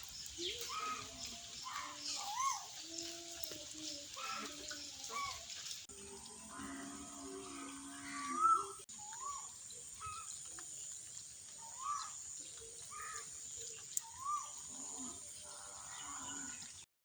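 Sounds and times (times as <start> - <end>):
bird calling: 0.0 - 5.8, 7.4 - 16.8.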